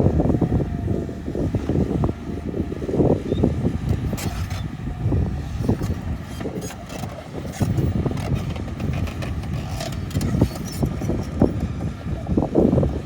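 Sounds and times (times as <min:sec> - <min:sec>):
heavy machine engine rumbling: 0:00.0 - 0:13.0.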